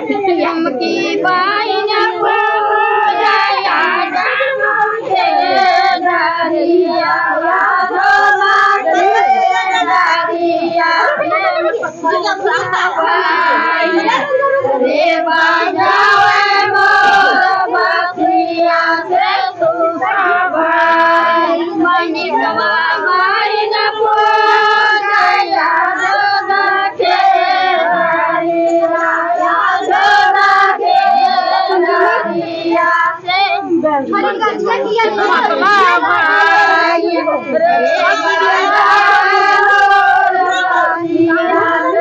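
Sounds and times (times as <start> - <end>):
women and girls singing: 0.0 - 42.0.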